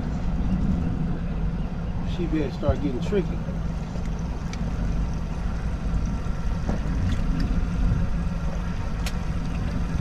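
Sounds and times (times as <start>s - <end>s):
boat engine rumble: 0.0s - 10.0s
low hum: 0.0s - 10.0s.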